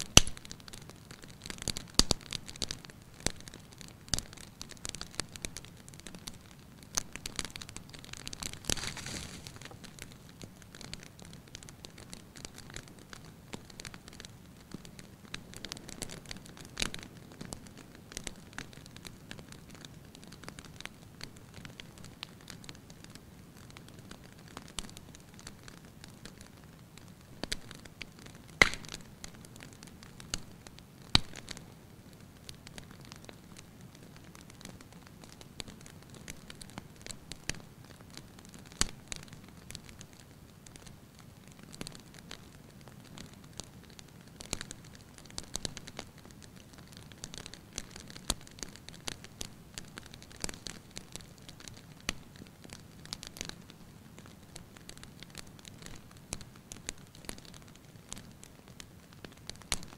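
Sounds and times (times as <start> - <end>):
fire pops and snaps: 0.0 - 59.9
wood fire crackling: 0.0 - 59.9.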